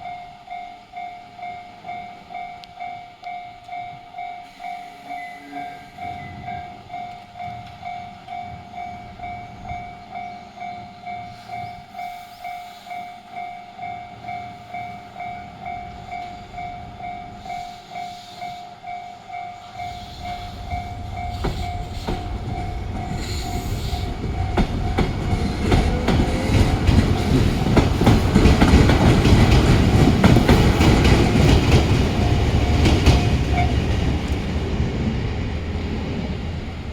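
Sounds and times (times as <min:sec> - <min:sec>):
level-crossing alarm ringing: 0:00.0 - 0:34.0
train wheels clacking on rails: 0:00.0 - 0:36.9.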